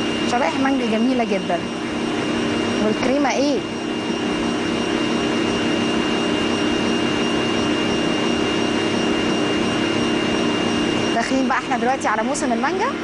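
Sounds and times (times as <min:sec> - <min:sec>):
stand mixer whipping cream: 0:00.0 - 0:13.0.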